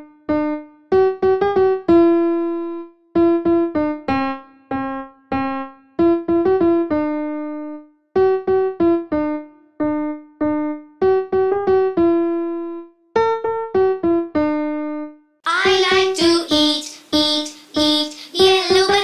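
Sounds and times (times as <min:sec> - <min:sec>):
piano-like keyboard melody: 0:00.0 - 0:19.0.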